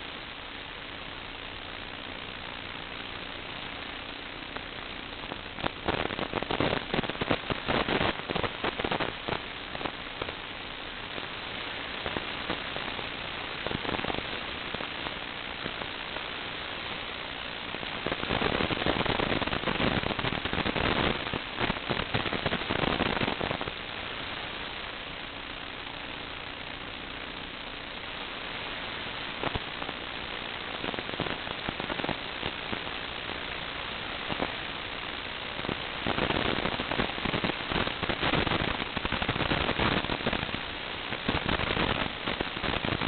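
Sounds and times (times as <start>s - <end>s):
steady hiss: 0.0s - 43.0s
dense crackling: 1.4s - 43.0s.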